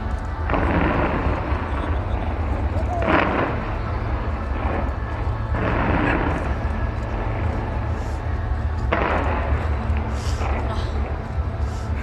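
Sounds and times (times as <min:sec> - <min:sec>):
fireworks bursting: 0:00.0 - 0:12.0
steady low rumble: 0:00.0 - 0:12.0.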